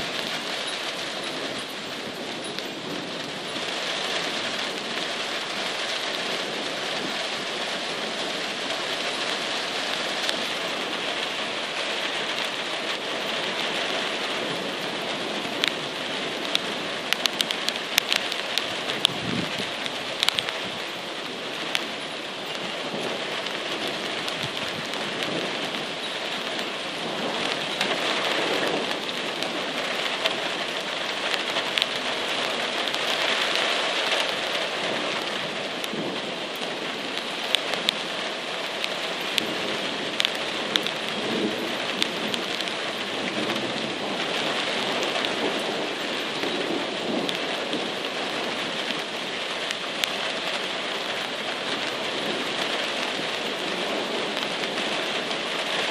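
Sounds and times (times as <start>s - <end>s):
heavy rain: 0.0s - 55.9s
raindrops ticking close by: 0.0s - 55.9s.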